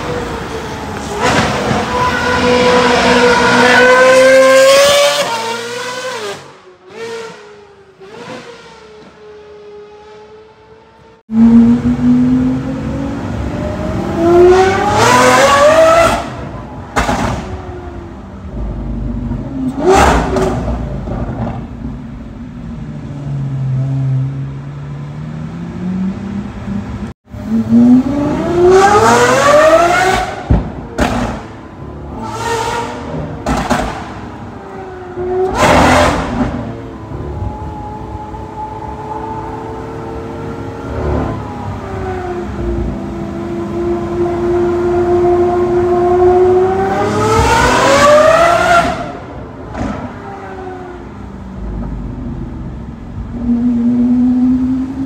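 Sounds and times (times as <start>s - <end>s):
sports car engine accelerating: 0.0s - 55.0s.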